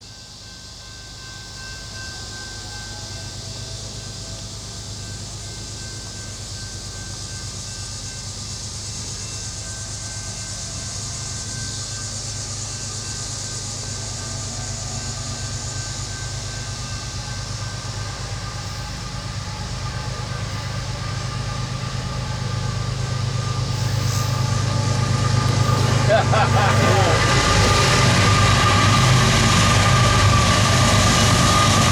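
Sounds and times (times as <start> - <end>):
locomotive engine drone: 0.0 - 31.9.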